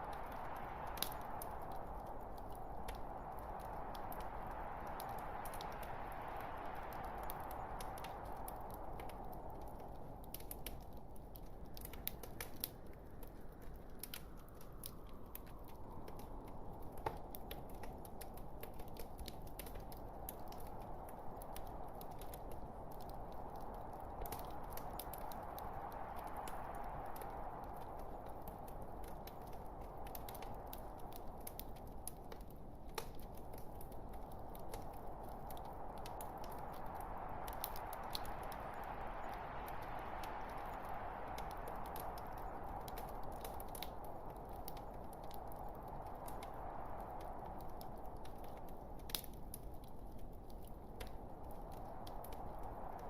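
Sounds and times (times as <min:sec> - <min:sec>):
soft rush of fire: 0:00.0 - 0:53.0
wood fire crackling: 0:00.0 - 0:53.0.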